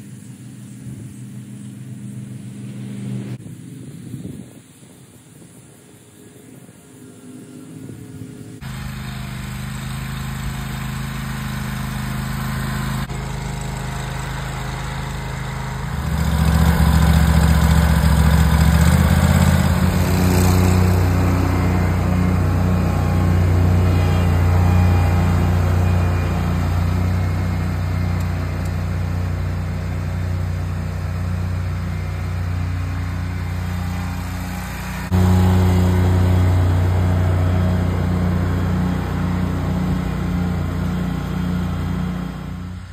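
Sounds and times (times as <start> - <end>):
mower engine running: 0.0 - 3.4, 8.6 - 42.9.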